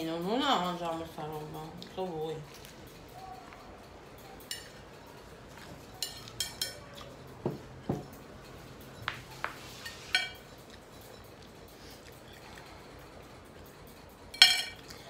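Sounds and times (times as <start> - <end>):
crockery and cutlery clinking: 0.5 - 12.8, 13.6 - 15.0.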